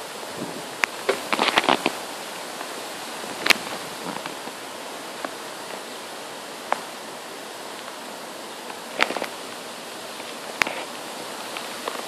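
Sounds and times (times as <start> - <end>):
heavy rain on trees: 0.0 - 12.0.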